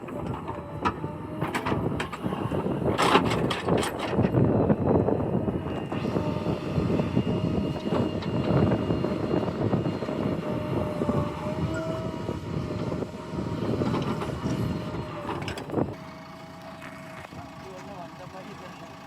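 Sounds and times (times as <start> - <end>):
diesel engine under load: 0.0 - 19.0
steady whine: 0.0 - 19.0.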